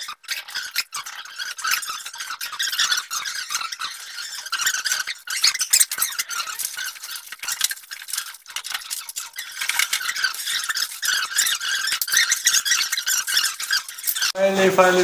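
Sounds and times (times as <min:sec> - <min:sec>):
hands squeaking on wall sheet: 0:00.0 - 0:15.0.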